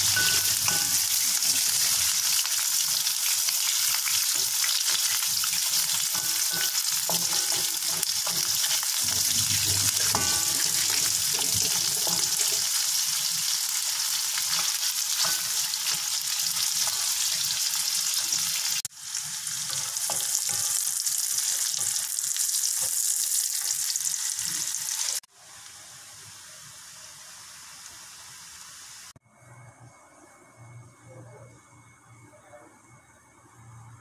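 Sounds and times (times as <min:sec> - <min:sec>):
food sizzling in a wok: 0:00.0 - 0:29.2.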